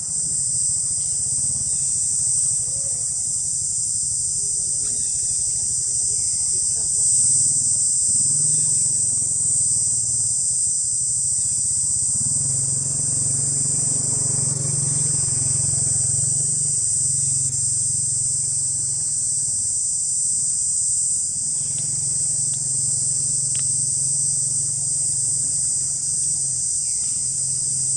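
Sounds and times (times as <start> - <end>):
insect chorus drone: 0.0 - 27.9.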